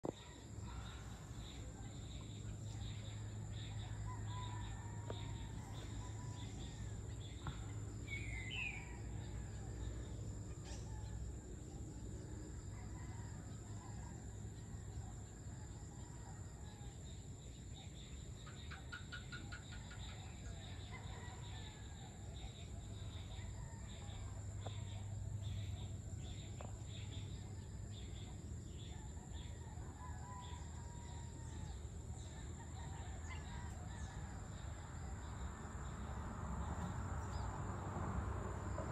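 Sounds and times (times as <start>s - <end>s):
cricket-like pulsing: 0.0s - 38.9s.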